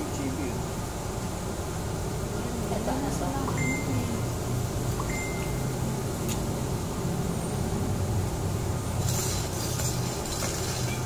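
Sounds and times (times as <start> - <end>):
exhaust ventilation hum: 0.0 - 11.0.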